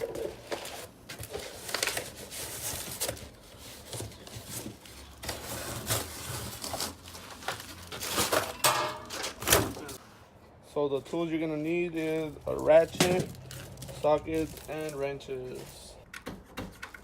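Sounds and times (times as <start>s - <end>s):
packaging rustling and scraping: 0.0s - 10.1s, 11.6s - 15.8s.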